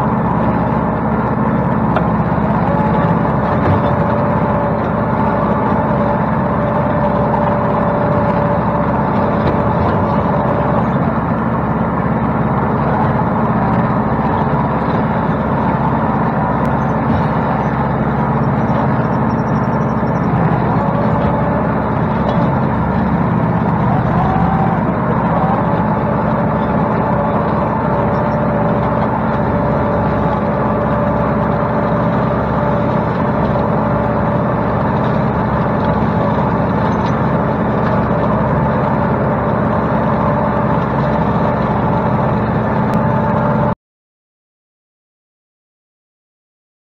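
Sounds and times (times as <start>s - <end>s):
tractor diesel engine under load: 0.0s - 43.8s.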